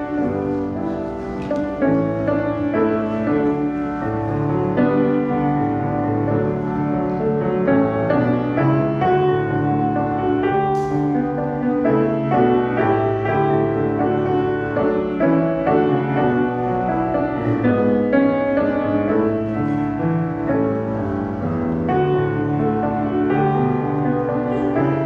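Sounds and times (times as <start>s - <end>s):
piano piece: 0.0s - 25.0s.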